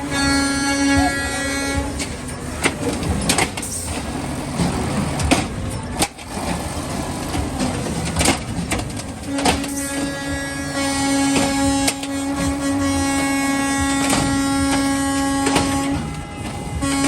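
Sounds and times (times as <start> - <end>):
garbage truck rumbling: 0.0 - 17.0.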